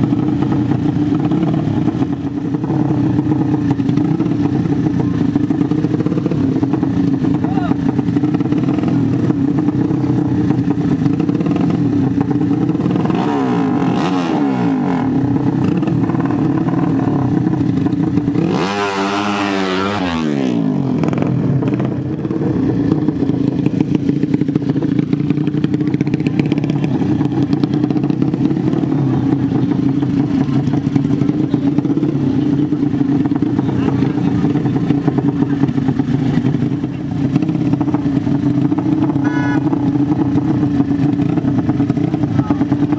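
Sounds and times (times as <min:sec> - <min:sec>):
motorcycle engines idling and revving: 0:00.0 - 0:42.9.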